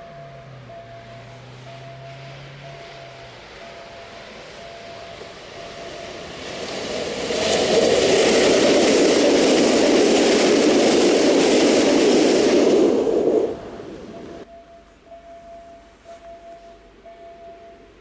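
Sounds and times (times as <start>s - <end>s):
train wheels rushing on rails: 0.0s - 14.5s.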